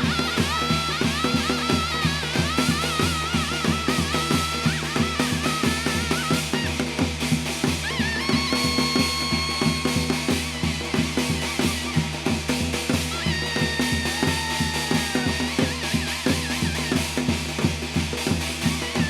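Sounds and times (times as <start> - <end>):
wind instrument long high notes: 0.0 - 17.6
fast drumbeat: 0.0 - 19.0
percussion: 0.0 - 19.0.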